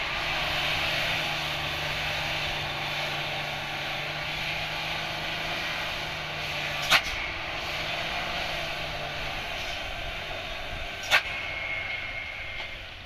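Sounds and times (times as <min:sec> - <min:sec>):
heavy truck engine and tyres: 0:00.0 - 0:13.0.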